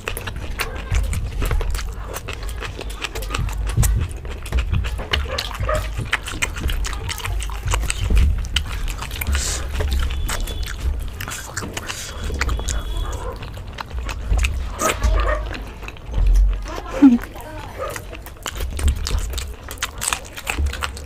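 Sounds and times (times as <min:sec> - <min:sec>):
squelches of bread torn and dipped: 0:00.0 - 0:21.0
wet chewing and lip-smacking: 0:00.0 - 0:21.0.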